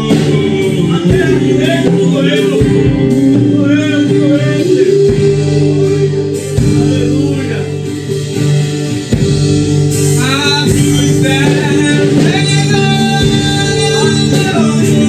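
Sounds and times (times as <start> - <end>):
person singing: 0.0 - 8.3, 10.0 - 15.0
band playing worship music: 0.0 - 15.0.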